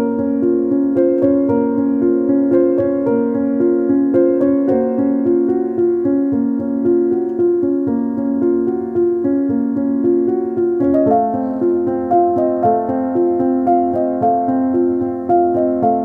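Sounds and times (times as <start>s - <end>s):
keyboard background music: 0.0s - 16.0s.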